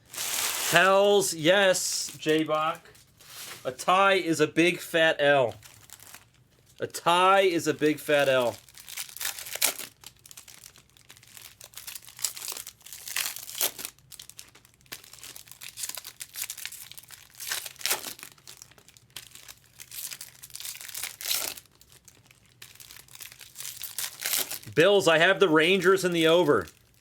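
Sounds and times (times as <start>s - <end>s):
foil wrappers crinkling and tearing: 0.0s - 3.8s, 5.5s - 6.8s, 7.4s - 24.7s, 25.3s - 27.0s.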